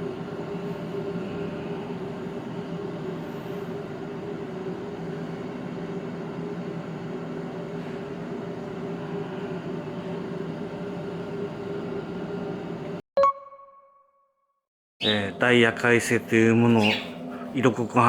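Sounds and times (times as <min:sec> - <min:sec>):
vending machine refrigeration hum: 0:00.0 - 0:13.0, 0:15.0 - 0:18.0.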